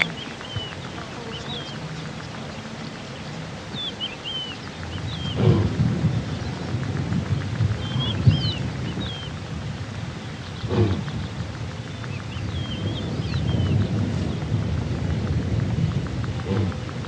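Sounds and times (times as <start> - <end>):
low rumbling noise: 0.0 - 17.0
small birds chirping: 0.0 - 17.0.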